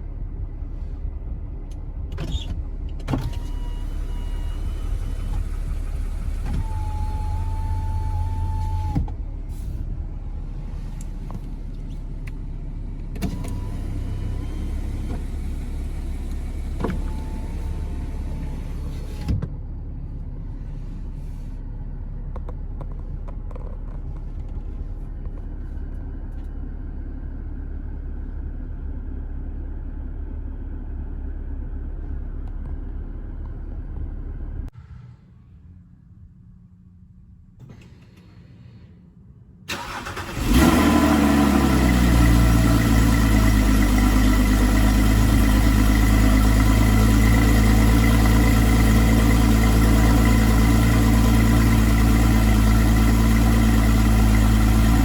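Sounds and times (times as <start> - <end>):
car engine idling: 0.0 - 38.9, 39.7 - 55.0.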